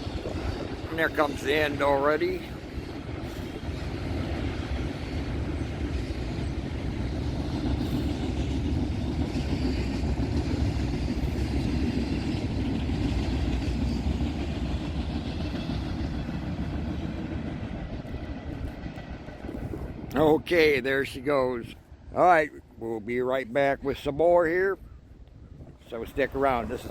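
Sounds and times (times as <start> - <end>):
freight train rolling on rails: 0.0 - 26.9.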